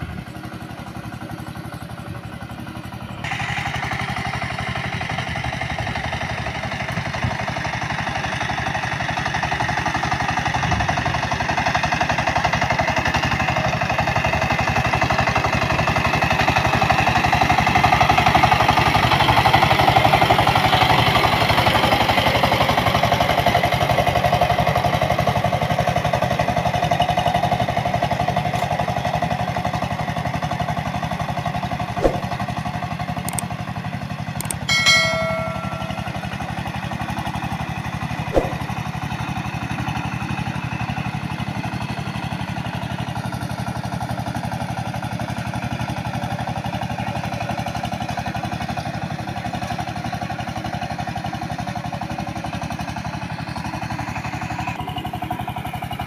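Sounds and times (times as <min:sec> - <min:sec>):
diesel tractor engine chugging: 0:00.0 - 0:56.0.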